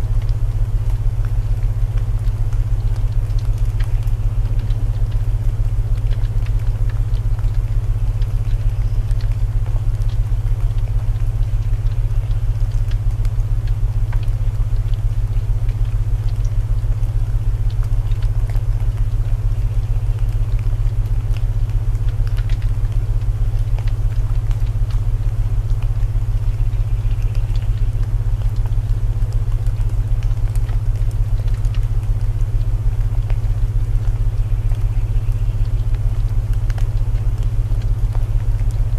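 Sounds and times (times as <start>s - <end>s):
rain hiss: 0.0s - 38.9s
wood fire crackling: 0.0s - 38.9s.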